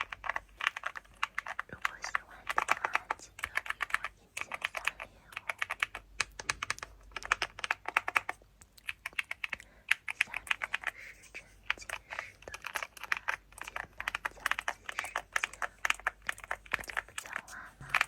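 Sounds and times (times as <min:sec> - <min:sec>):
fast typing on keyboard: 0:00.0 - 0:18.0.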